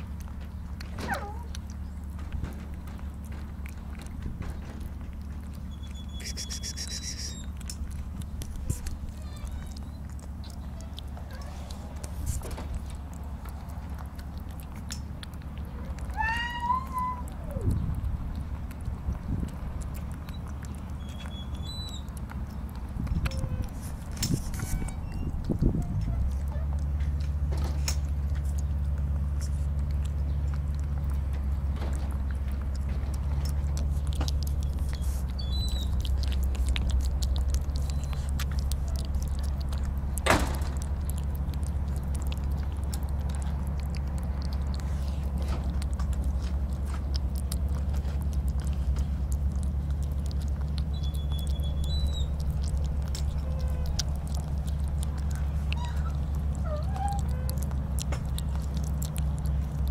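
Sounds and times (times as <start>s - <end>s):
steady low hum: 0.0s - 16.2s, 16.8s - 59.9s
kitten chewing and lapping food: 0.0s - 59.9s.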